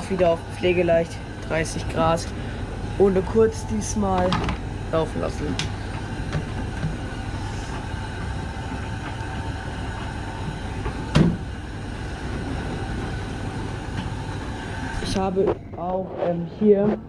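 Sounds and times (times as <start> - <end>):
washing machines humming: 0.0 - 17.0.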